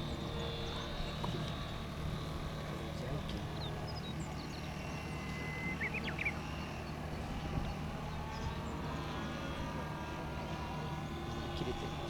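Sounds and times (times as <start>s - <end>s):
model plane motor humming: 0.0s - 12.0s.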